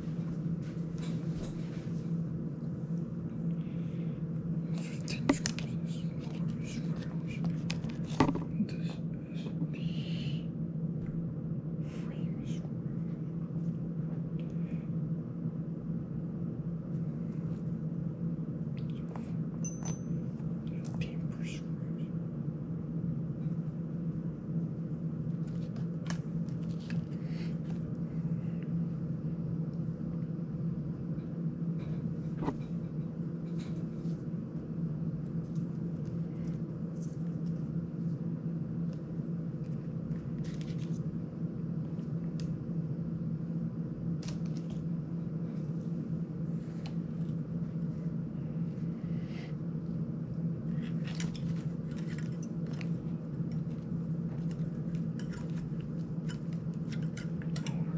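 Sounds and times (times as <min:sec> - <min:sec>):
desk fan humming: 0:00.0 - 0:57.9.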